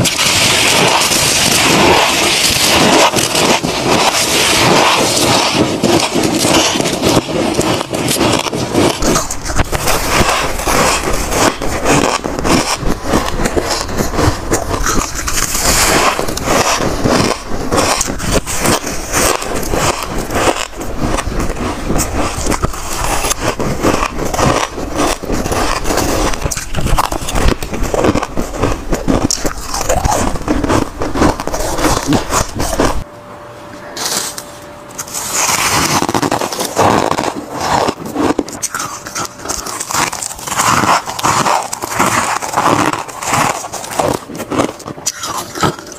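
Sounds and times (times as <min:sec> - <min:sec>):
ice crunching being chewed: 0:00.0 - 0:33.0, 0:35.0 - 0:45.9
metal spoon scraping ice: 0:00.0 - 0:33.0, 0:35.0 - 0:45.9.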